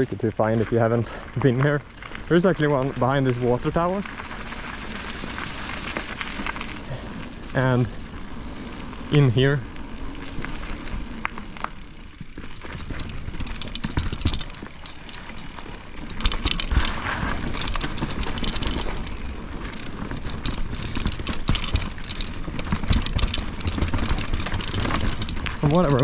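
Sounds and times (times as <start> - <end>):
bike rattling: 0.0 - 26.0
bike tyres clattering over roots: 0.0 - 26.0.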